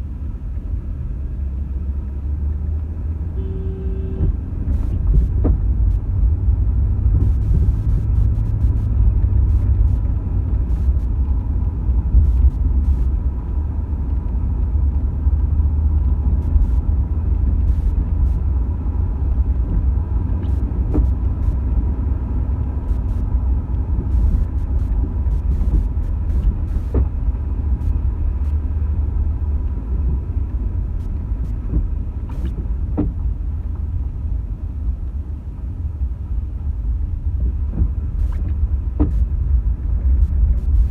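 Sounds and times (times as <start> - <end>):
engine and tyre rumble: 0.0 - 40.9.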